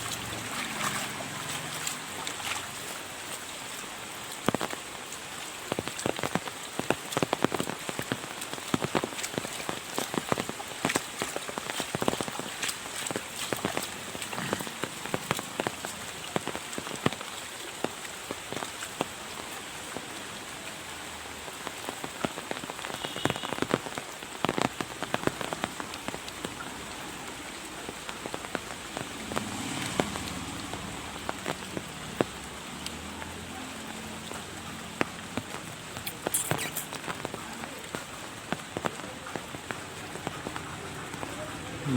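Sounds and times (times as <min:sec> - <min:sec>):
rain falling: 0:00.0 - 0:41.9
raindrops landing close by: 0:00.0 - 0:41.9.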